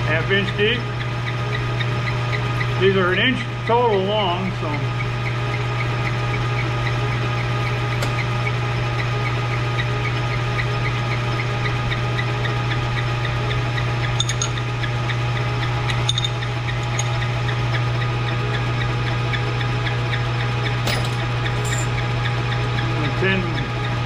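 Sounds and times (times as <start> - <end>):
metal lathe humming: 0.4 - 24.0.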